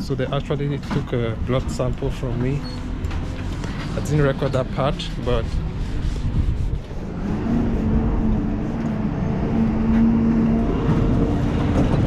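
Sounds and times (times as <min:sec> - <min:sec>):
low traffic rumble: 0:00.0 - 0:12.0
vehicle engine humming: 0:01.1 - 0:12.0.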